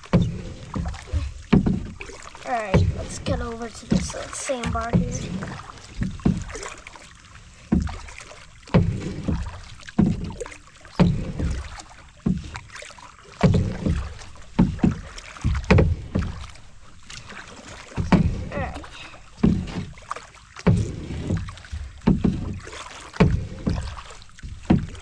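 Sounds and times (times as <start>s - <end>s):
paddle splashing in water: 0.0s - 25.0s.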